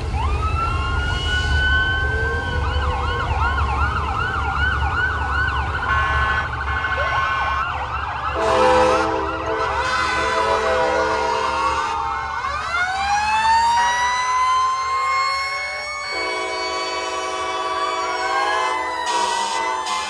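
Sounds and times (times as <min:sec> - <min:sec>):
fire truck sirens wailing: 0:00.0 - 0:20.0.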